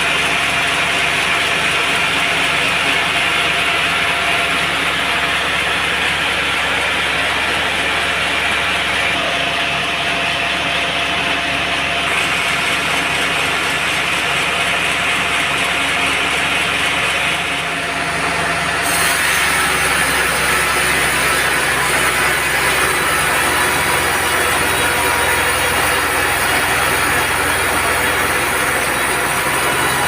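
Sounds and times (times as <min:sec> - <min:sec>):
band saw cutting log: 0:00.0 - 0:30.0.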